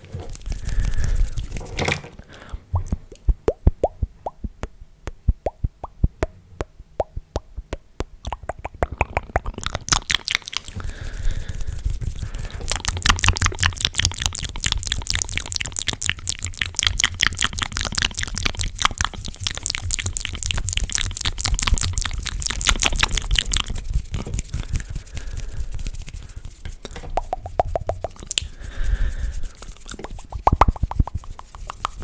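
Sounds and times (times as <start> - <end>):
wet mouth clicks and pops: 0.4 - 1.6, 2.4 - 32.0.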